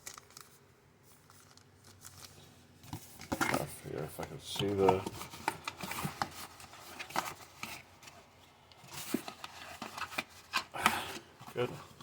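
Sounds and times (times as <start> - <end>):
cardboard and wrapper crinkling: 0.0 - 12.0.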